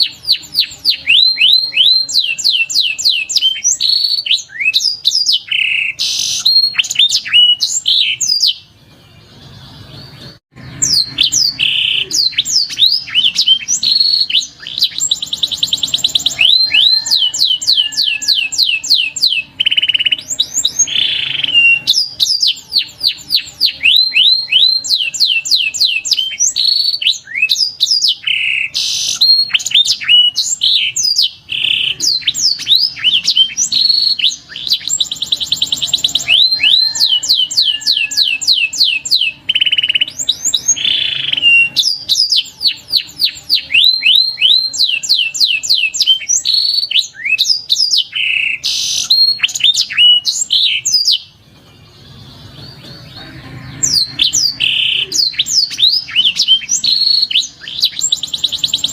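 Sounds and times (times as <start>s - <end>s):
canary singing: 0.0s - 58.9s.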